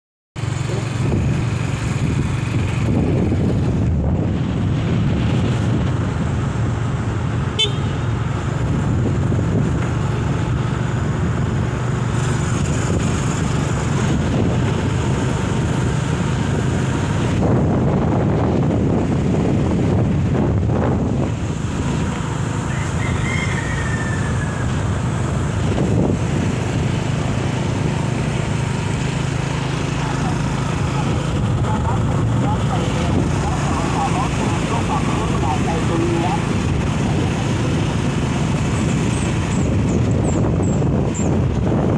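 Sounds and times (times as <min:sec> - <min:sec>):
wind over microphone: 0:00.4 - 0:07.6, 0:08.2 - 0:41.9
motorcycle engine running: 0:00.4 - 0:41.9.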